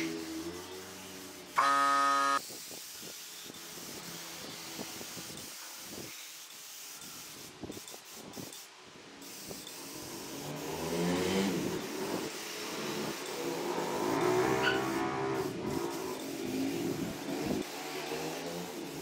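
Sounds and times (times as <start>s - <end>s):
spray gun hissing: 0.0s - 19.0s.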